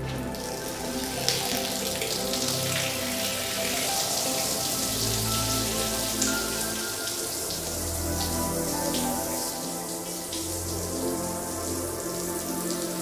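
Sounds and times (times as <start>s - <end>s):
background music: 0.0s - 13.0s
water sprinkling onto floor: 0.0s - 13.0s.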